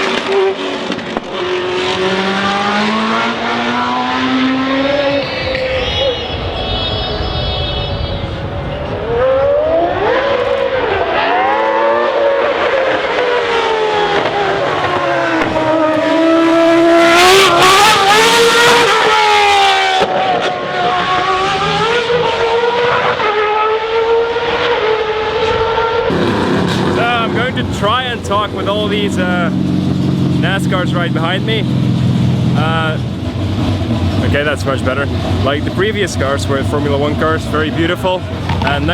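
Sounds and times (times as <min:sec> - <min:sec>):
racing car engines passing: 0:00.0 - 0:38.9.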